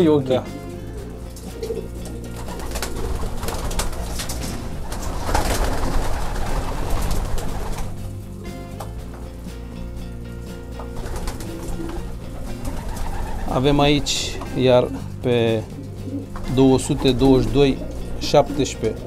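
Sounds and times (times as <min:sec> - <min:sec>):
pigeons flapping wings: 0:01.3 - 0:09.3, 0:10.8 - 0:19.0.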